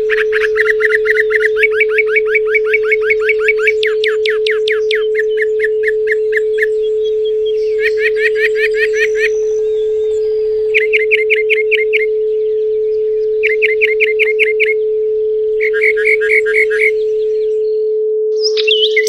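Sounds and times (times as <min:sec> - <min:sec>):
songbird singing: 0:00.0 - 0:19.0
steady sine tone: 0:00.0 - 0:19.0.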